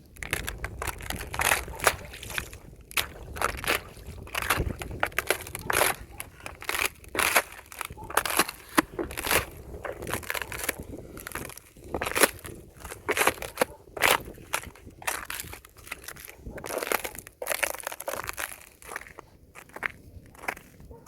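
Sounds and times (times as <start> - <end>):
ice crunching underfoot: 0.0 - 21.0.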